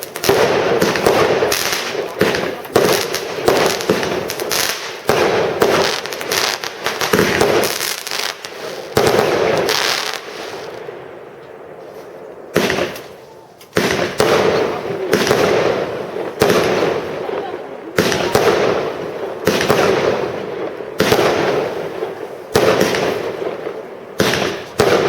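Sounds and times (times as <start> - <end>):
fireworks launching and bursting: 0.0 - 25.0.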